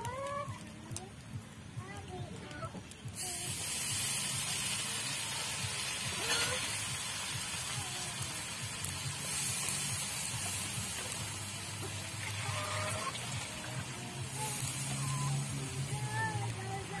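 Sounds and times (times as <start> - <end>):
noodles sizzling in a wok: 3.0 - 17.0.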